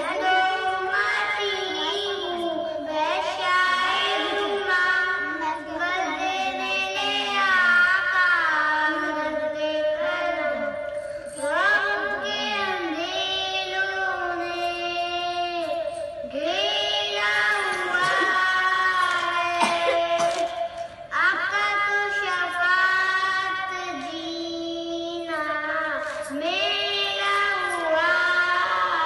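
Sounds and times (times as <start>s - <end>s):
boy singing into microphone: 0.0s - 29.0s.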